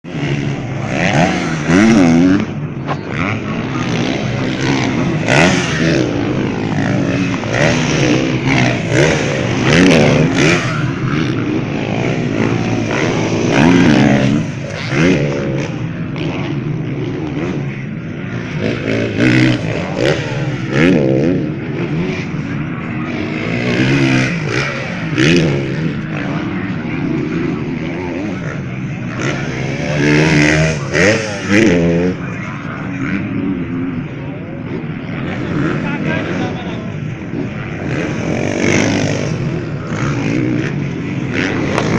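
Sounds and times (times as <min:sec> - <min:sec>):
motorbike engines revving: 0:00.0 - 0:41.9.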